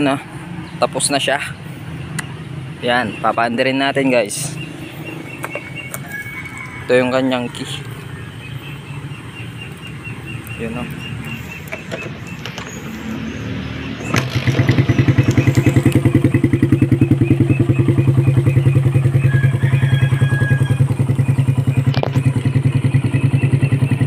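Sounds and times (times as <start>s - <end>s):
motorcycle engine starting and idling: 1.8s - 24.0s.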